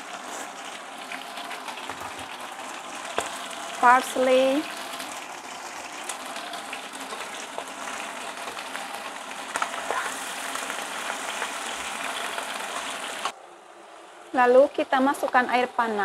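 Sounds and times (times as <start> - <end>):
meat and vegetables sizzling: 0.0 - 13.3.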